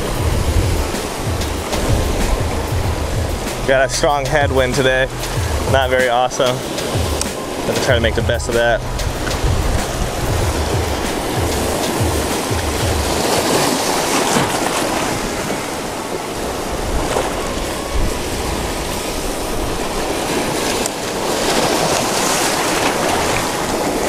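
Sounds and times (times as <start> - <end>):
waves splashing against rocks: 0.0 - 24.0
wind buffeting microphone: 0.0 - 24.0.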